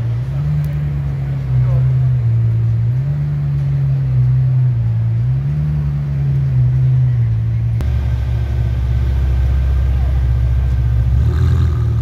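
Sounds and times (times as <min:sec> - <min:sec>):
car engine at low revs: 0:00.0 - 0:12.0
car engine idling: 0:00.0 - 0:12.0.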